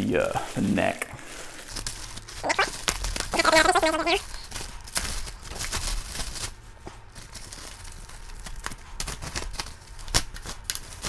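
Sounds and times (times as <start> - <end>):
plastic bag and foam crinkling: 0.2 - 11.0.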